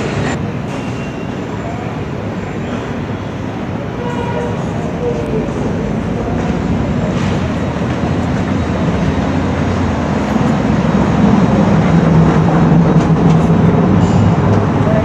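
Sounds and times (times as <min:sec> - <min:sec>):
subway car rumble and rattle: 0:00.0 - 0:15.0.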